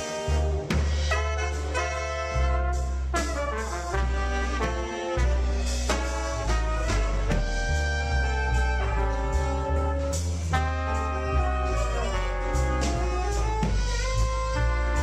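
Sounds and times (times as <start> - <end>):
double bass: 0.0 - 15.0
drums with cymbals: 0.0 - 15.0
saxophones: 0.0 - 15.0
trombone: 0.0 - 15.0
trumpet: 0.0 - 15.0.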